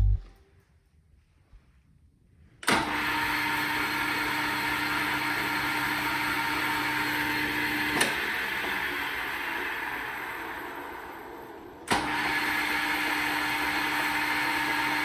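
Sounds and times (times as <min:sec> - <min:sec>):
lathe running with hiss and hum: 0:02.9 - 0:15.0.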